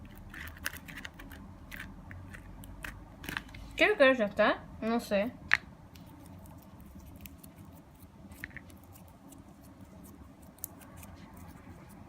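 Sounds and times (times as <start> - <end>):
slime being stirred: 0.0 - 3.6, 6.0 - 12.0.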